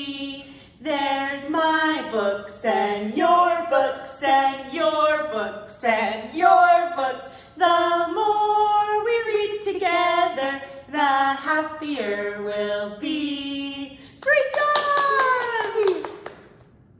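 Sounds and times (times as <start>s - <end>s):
two women singing: 0.0s - 15.9s.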